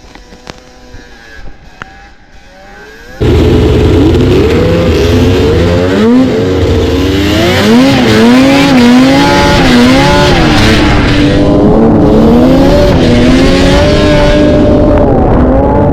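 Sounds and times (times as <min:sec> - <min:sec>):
snowmobile engine revving: 0:00.0 - 0:15.9.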